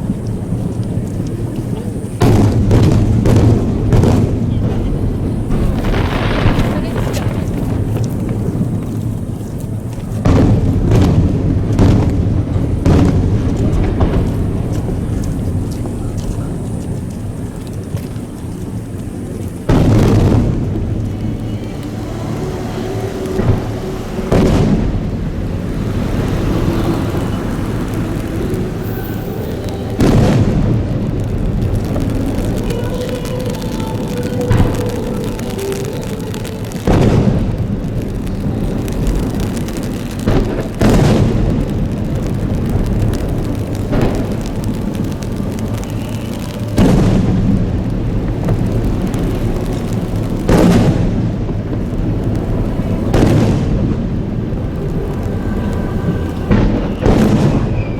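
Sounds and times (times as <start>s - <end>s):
fireworks booming: 0.0s - 57.9s
fireworks crackling: 0.0s - 57.9s
loud fireworks burst: 0.0s - 57.9s.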